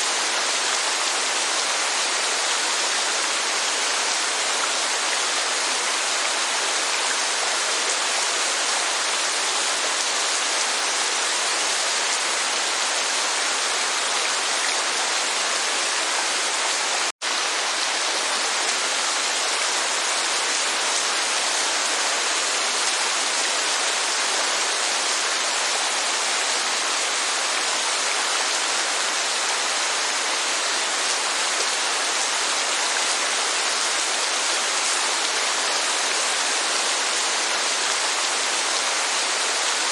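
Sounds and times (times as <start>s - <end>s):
rushing falling water: 0.0s - 39.9s.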